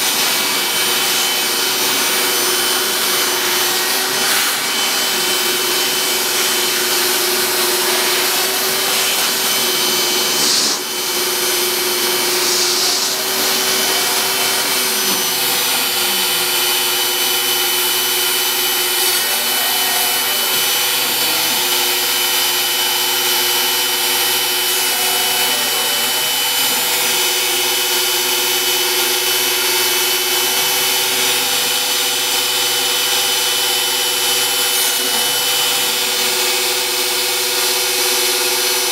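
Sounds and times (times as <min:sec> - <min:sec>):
router motor running: 0:00.0 - 0:38.9.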